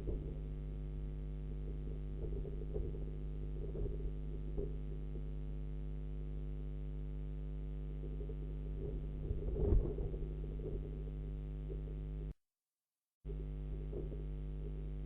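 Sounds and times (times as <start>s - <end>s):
steady electrical hum: 0.0s - 12.4s, 13.3s - 15.0s.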